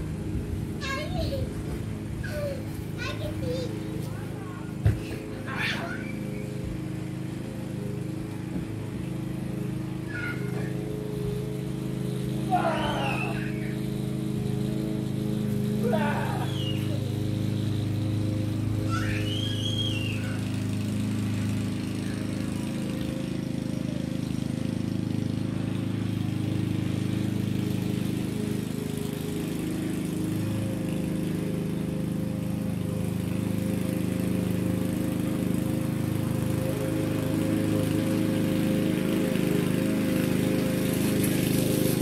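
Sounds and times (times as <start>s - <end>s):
lawn mower engine running: 0.0s - 42.0s.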